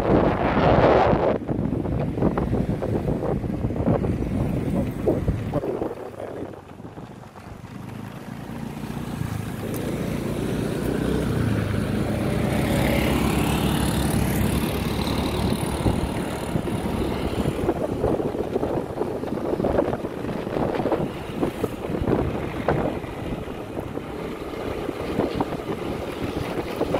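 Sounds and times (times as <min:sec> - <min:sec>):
wind on microphone: 0:00.0 - 0:07.8, 0:08.4 - 0:26.9
motorcycle engine: 0:00.0 - 0:26.9.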